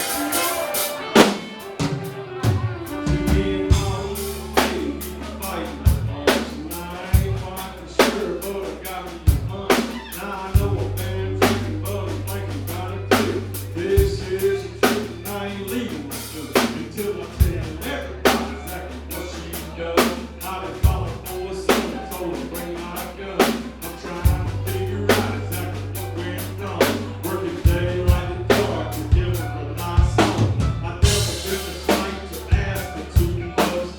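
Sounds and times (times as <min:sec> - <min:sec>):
band music: 0:00.0 - 0:33.9
drum kit beat: 0:00.0 - 0:33.9
bass guitar low notes: 0:01.9 - 0:33.9.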